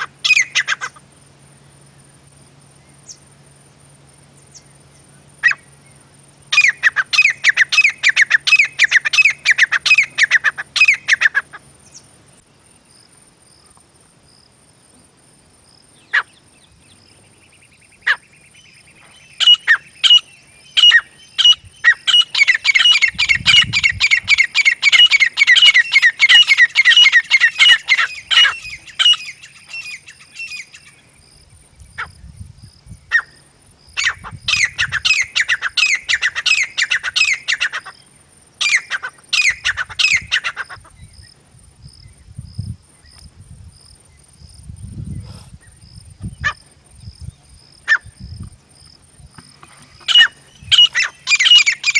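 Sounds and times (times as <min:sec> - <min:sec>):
francolin calling: 0:00.0 - 0:12.9, 0:15.9 - 0:32.3, 0:32.9 - 0:41.4, 0:43.9 - 0:51.9
faint high-pitched whine: 0:00.0 - 0:51.9.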